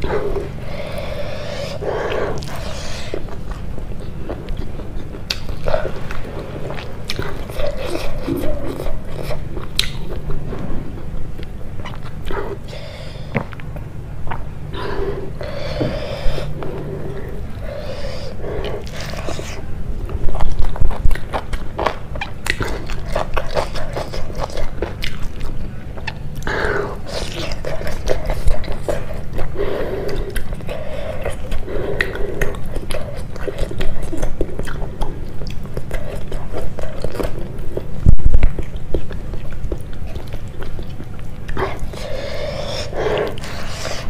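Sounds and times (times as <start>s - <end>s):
chewing and wet mouth sounds: 0.0s - 44.0s.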